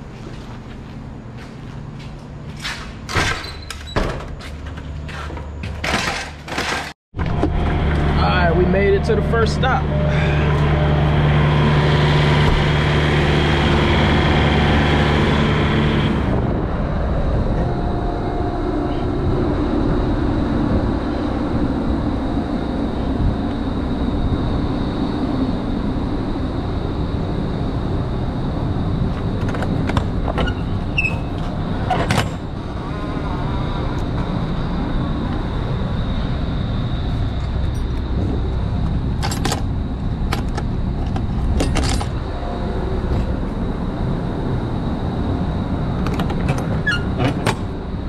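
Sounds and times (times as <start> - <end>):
diesel engine running: 7.2 - 48.0.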